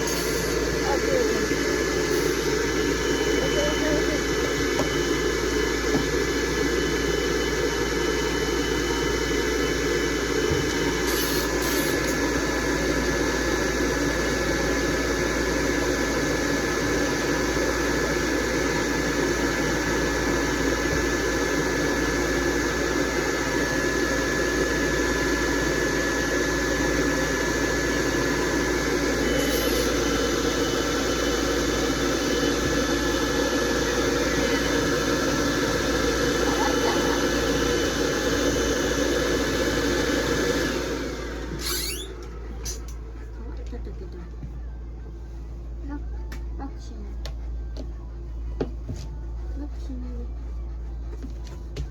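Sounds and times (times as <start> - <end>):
pet dryer blowing air: 0.0 - 51.9.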